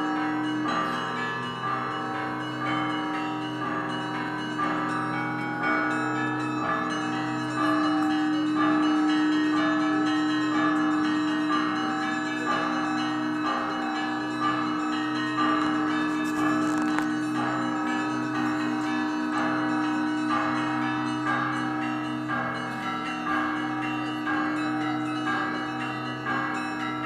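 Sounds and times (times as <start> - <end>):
heavy low bell: 0.0 - 27.0
lower bells ringing: 0.0 - 27.0.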